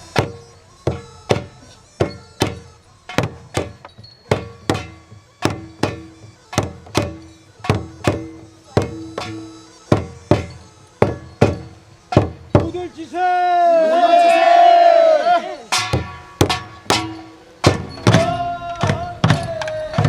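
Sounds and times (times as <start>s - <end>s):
percussion struck in steady rhythm: 0.0s - 12.8s, 15.7s - 20.0s.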